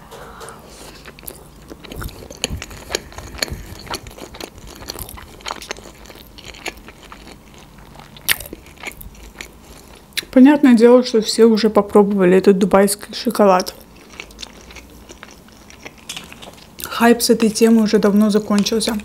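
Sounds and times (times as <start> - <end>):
close chewing: 0.4 - 10.3, 13.6 - 19.0.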